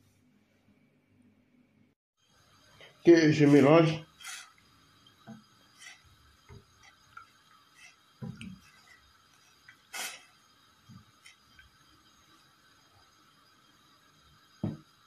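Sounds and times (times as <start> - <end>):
spatula stirring water in pot: 2.3 - 15.0.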